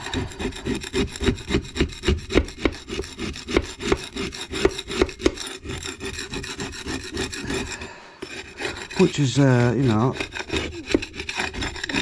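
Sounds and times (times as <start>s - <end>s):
blade scraping brick: 0.0s - 12.0s.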